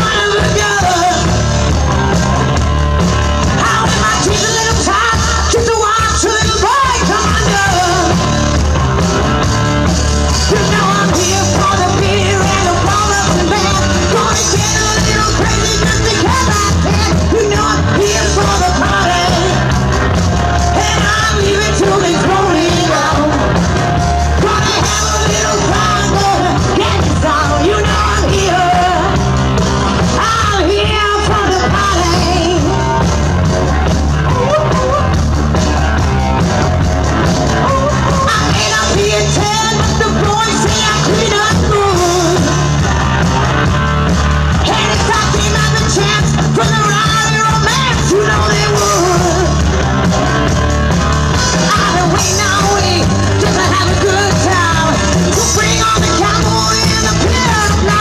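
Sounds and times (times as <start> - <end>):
rock band playing: 0.0 - 58.0
woman singing lead: 0.0 - 58.0.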